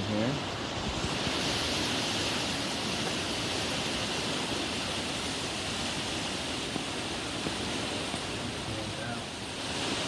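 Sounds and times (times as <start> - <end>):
steady rain: 0.0 - 10.0.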